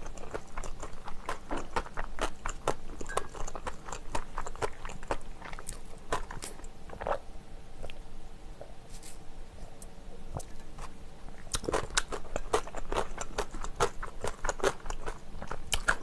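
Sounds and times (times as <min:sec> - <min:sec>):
person chewing food: 0:00.0 - 0:07.2, 0:10.3 - 0:16.0.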